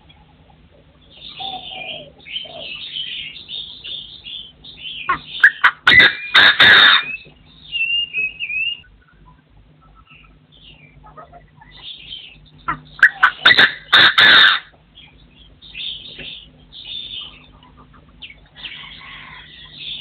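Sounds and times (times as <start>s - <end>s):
partridges chirping: 0.0s - 20.0s.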